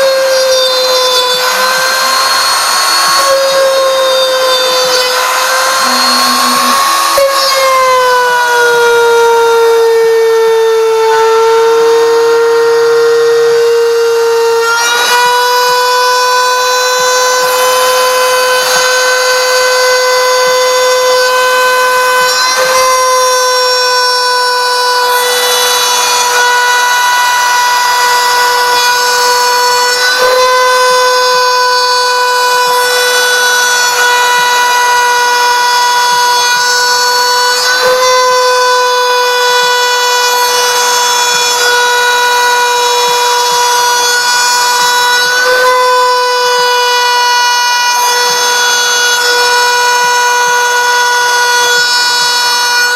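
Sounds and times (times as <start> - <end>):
router spindle high whine: 0.0 - 52.9.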